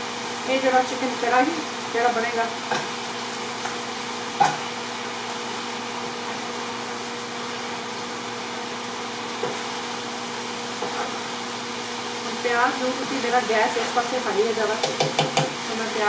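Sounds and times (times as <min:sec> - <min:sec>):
meat and onions sizzling in pan: 0:00.0 - 0:16.0.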